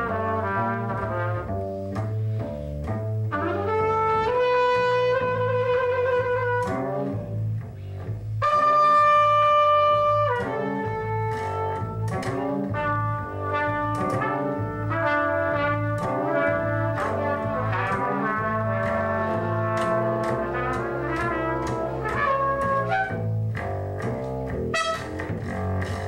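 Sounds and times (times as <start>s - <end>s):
trumpets playing: 0.0s - 1.6s, 3.3s - 7.4s, 8.4s - 23.4s, 24.6s - 25.6s
double bass low notes: 0.0s - 26.0s.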